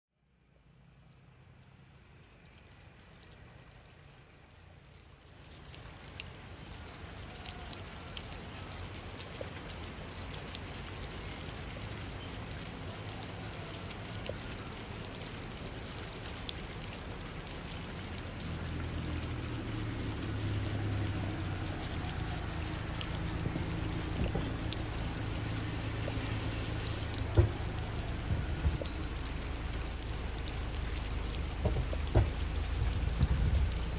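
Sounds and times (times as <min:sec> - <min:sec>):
running water: 0:01.5 - 0:33.9.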